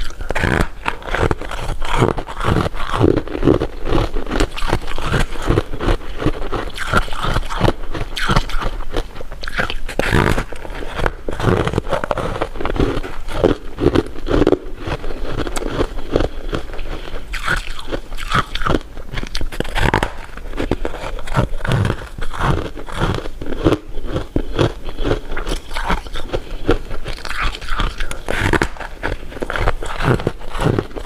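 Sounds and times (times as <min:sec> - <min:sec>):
chewing crunchy sweets: 0:00.0 - 0:31.0.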